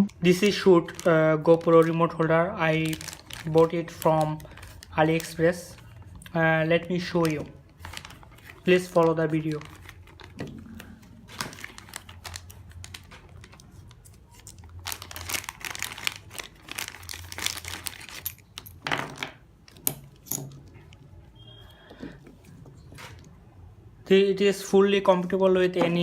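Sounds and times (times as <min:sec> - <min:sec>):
plastic packaging crinkling: 0:00.1 - 0:20.9.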